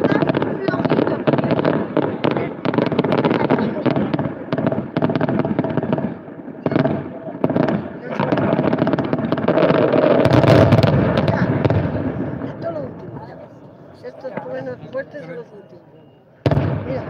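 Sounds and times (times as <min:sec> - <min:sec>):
fireworks cracking and banging: 0:00.0 - 0:13.6, 0:16.4 - 0:17.0.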